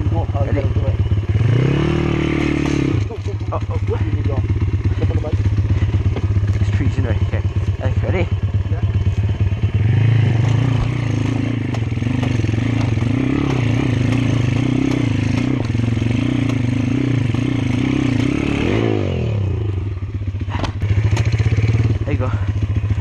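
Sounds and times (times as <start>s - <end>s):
motorbike engine revving hard: 0.0s - 23.0s.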